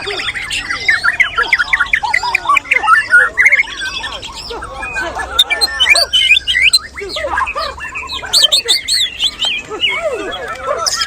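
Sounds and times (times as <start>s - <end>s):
many caged birds singing: 0.0s - 11.0s.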